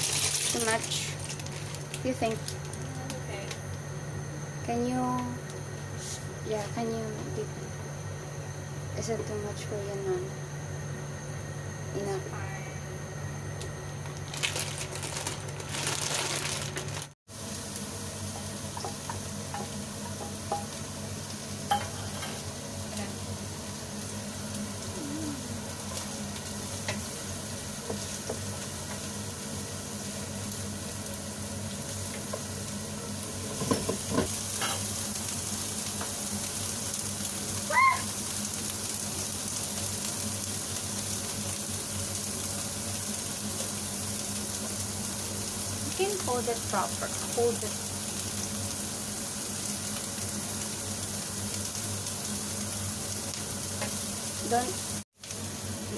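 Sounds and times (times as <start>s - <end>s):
onions sizzling in a pan: 0.0s - 12.8s, 14.1s - 55.9s.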